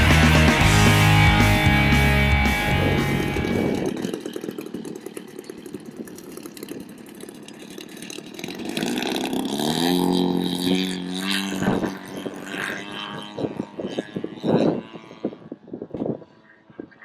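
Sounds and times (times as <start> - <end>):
model airplane engine revving: 0.0 - 17.0.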